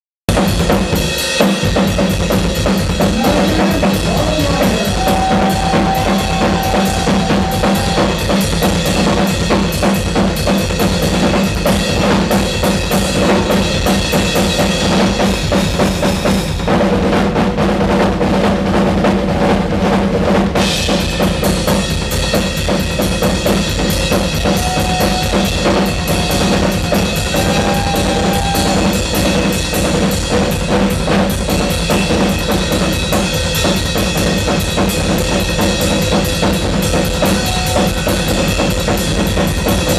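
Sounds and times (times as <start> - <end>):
cymbals: 0.3 - 16.8, 20.6 - 39.9
bass drum and snare strokes: 0.3 - 39.9.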